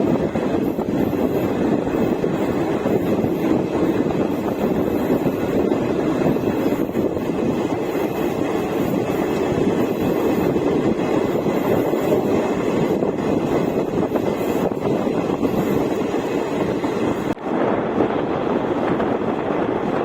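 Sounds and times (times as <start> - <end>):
train wheels on rails: 0.0 - 17.4.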